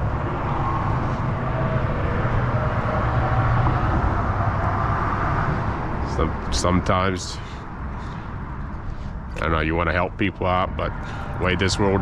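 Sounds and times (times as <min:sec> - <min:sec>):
car traffic rumble overhead: 0:00.0 - 0:12.0.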